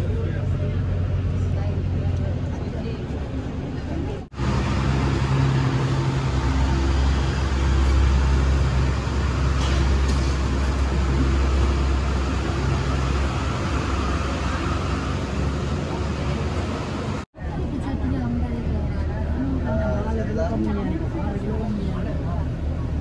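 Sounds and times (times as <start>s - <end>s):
bus engine hum: 0.0s - 23.0s
road noise: 0.0s - 23.0s.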